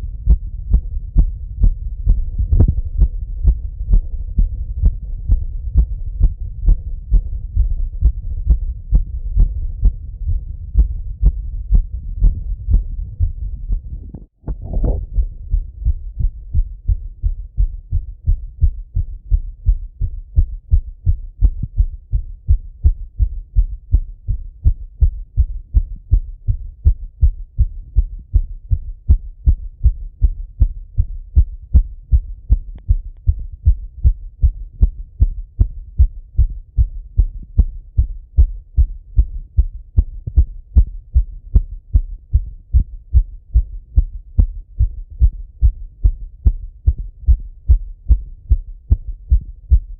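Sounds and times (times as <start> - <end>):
fast heartbeat through stethoscope: 0.0 - 49.9.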